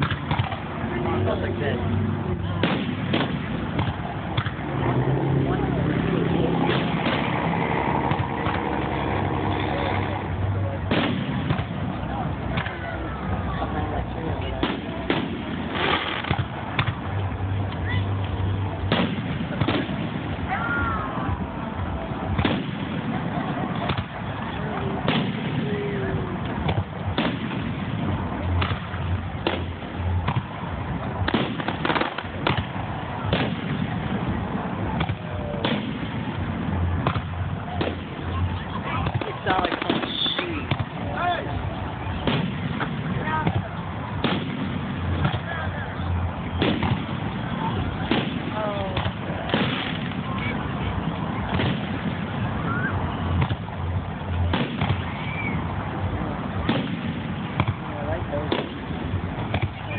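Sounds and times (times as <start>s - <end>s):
fireworks bursting with sharp bangs: 0.0s - 59.9s.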